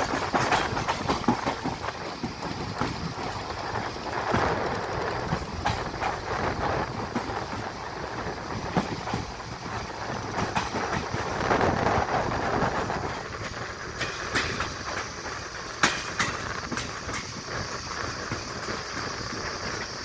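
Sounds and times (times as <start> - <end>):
train running on rails: 0.0 - 20.0
wheels clicking over rail joints: 0.0 - 20.0.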